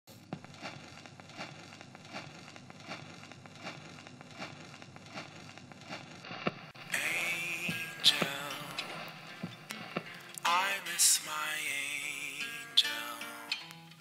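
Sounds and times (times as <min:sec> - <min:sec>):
crackle and hiss: 0:00.1 - 0:14.0.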